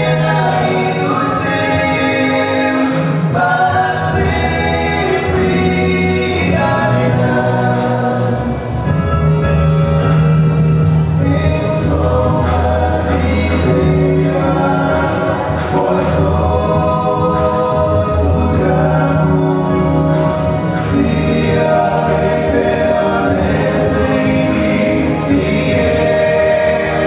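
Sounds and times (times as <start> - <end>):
male vocal quartet singing gospel: 0.0 - 10.1, 10.8 - 27.0.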